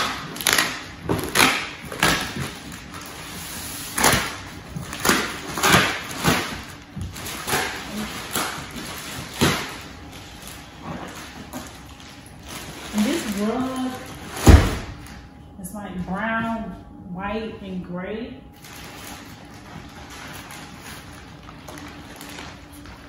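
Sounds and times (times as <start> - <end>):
plastic wrapping crinkling: 0.0 - 15.5, 18.5 - 23.0.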